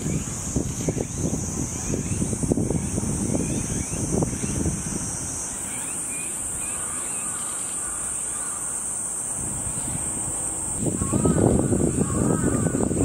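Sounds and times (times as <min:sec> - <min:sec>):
wind rumbling on microphone: 0:00.0 - 0:07.0, 0:09.2 - 0:13.0
cicadas droning: 0:00.0 - 0:13.0.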